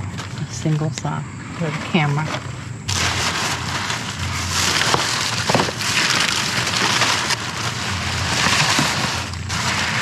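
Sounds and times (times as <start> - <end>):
plastic bags rustling: 1.8 - 10.0.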